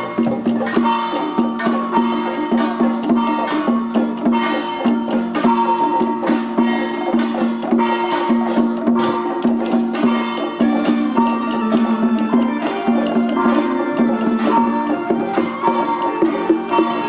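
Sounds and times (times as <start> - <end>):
percussion beat: 0.0 - 17.0
sustained melodic notes: 0.0 - 17.0.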